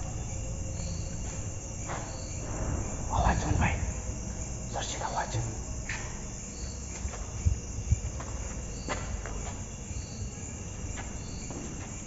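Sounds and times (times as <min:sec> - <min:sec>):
cricket chirping: 0:00.0 - 0:12.0
high-pitched insect hiss: 0:00.0 - 0:12.0.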